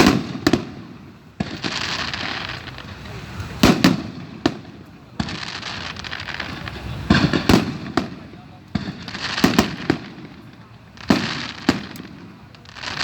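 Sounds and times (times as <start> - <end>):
fireworks bangs: 0.0 - 13.0
fireworks crackle: 0.0 - 13.0.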